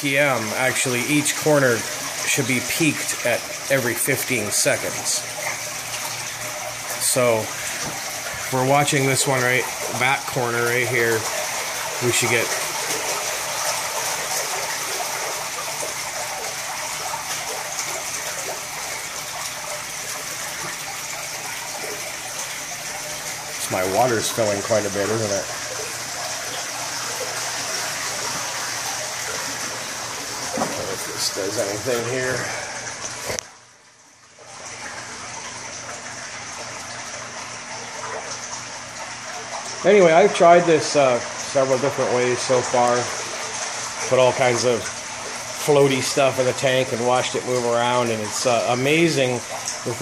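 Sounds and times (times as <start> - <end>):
water rushing and splashing: 0.0 - 33.7, 34.3 - 50.0.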